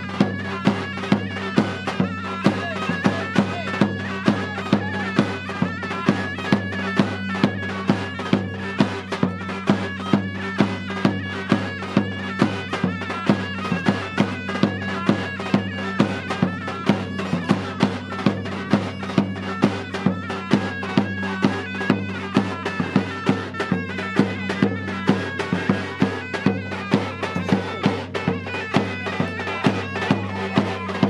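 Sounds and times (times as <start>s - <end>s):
reedy bagpipe-like melody: 0.0s - 31.0s
regular drumbeat: 0.0s - 31.0s.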